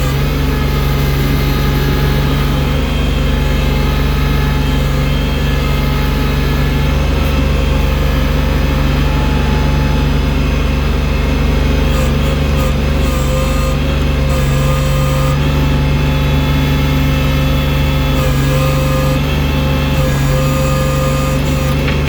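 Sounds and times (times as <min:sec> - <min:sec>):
loader engine running under load: 0:00.0 - 0:22.0.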